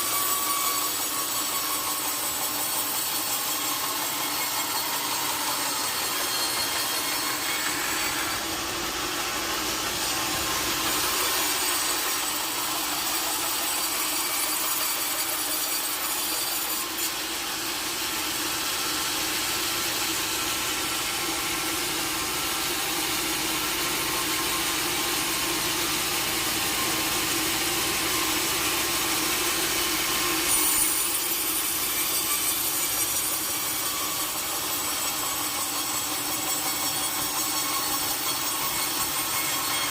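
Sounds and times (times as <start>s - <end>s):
sawmill saw cutting a log: 0.0s - 39.9s.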